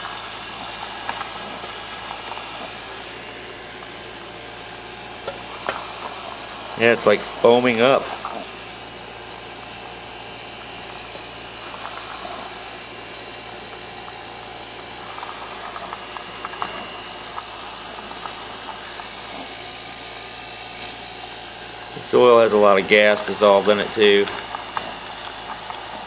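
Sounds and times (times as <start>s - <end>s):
oil splattering ticks: 0.0s - 8.6s, 10.6s - 26.0s
compressor humming: 0.0s - 26.0s.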